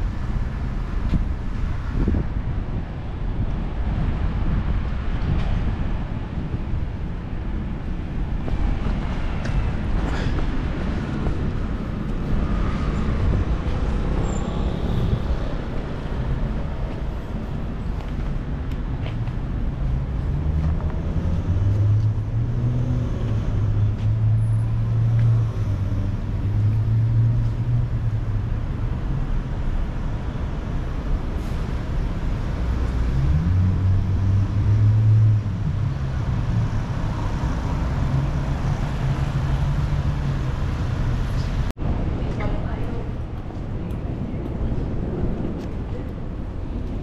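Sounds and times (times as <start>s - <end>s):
road traffic engine hum: 0.0s - 47.0s.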